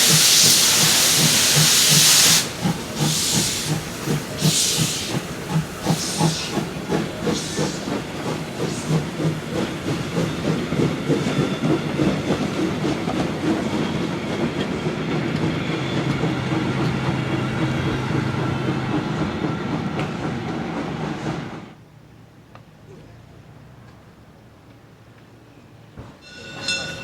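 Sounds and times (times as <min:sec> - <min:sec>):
steam locomotive chuffing: 0:00.0 - 0:21.8
train wheels clattering on rails: 0:00.0 - 0:21.8, 0:26.0 - 0:27.0.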